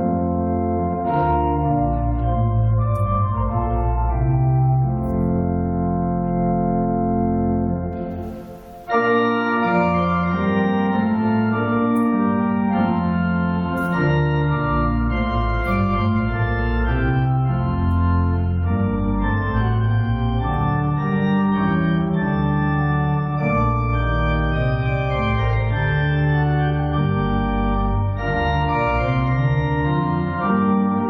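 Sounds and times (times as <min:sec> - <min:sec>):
church organ playing chords: 0:00.0 - 0:31.0.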